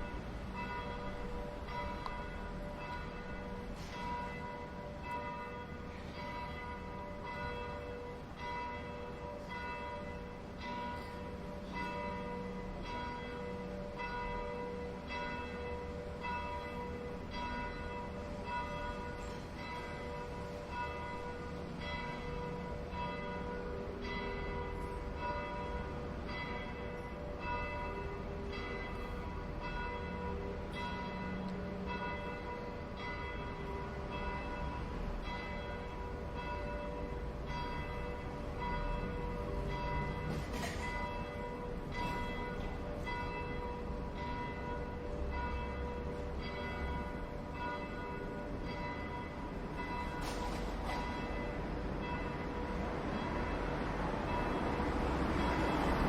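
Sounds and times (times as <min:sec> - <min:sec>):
bells ringing in a peal: 0:00.0 - 0:56.0.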